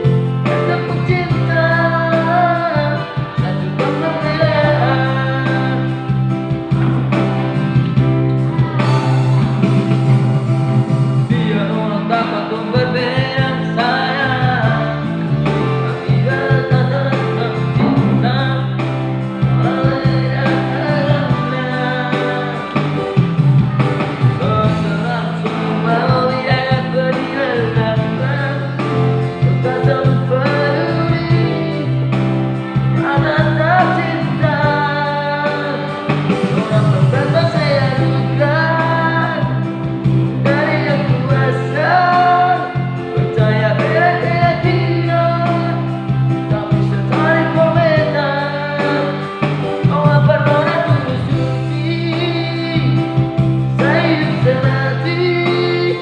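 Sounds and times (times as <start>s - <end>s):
instrumental backing: 0.0s - 56.0s
man singing pop ballad: 0.0s - 56.0s.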